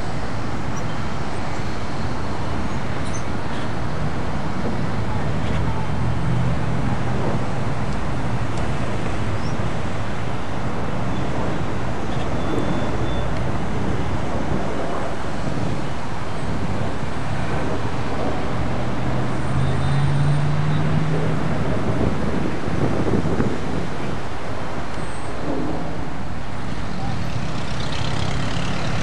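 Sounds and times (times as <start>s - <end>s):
car road noise and engine hum: 0.0s - 29.0s.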